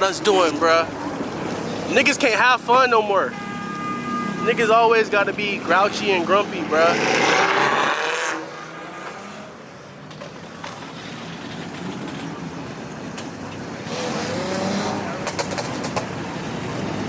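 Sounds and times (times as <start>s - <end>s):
car engines running: 0.0s - 17.0s
traffic noise: 0.0s - 17.0s.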